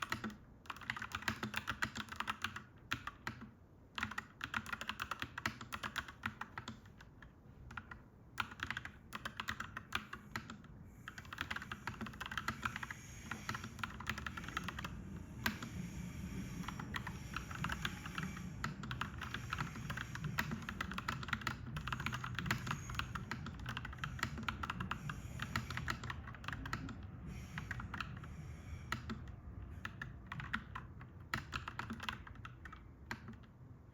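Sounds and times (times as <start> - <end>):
typing on mechanical keyboard: 0.0 - 15.7, 16.6 - 28.3, 28.9 - 33.7.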